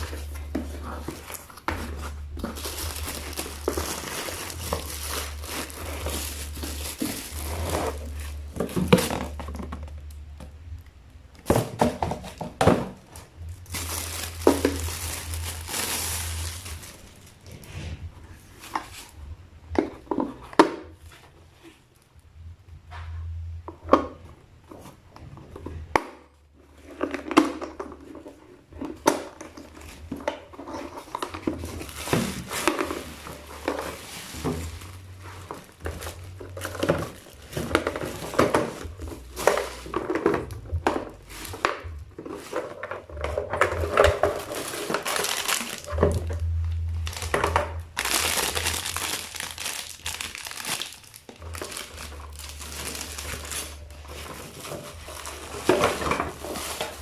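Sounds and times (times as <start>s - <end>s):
packaging crinkling: 0.0s - 10.3s, 11.4s - 19.2s, 26.8s - 57.0s.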